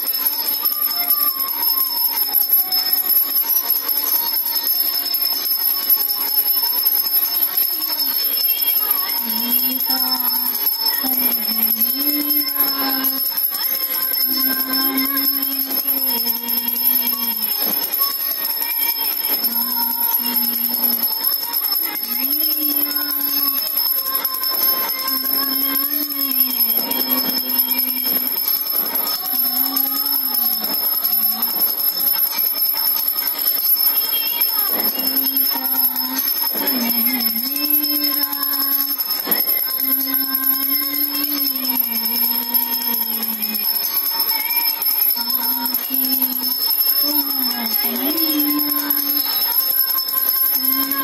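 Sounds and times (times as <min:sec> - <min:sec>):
bell ringing: 0:00.0 - 0:51.0.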